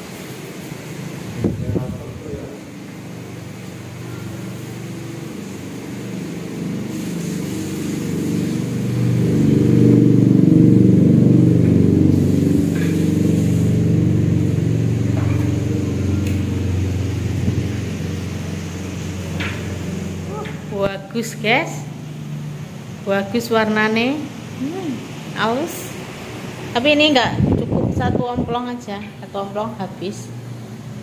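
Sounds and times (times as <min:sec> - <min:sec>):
vehicle engine passing by: 0:00.9 - 0:28.5.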